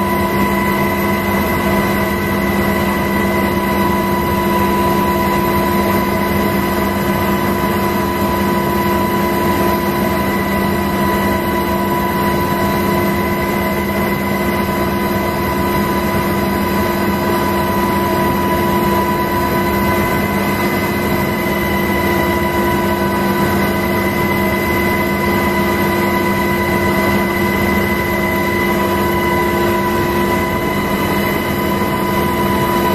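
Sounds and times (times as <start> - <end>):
aircraft engine and rotor drone: 0.0 - 32.9.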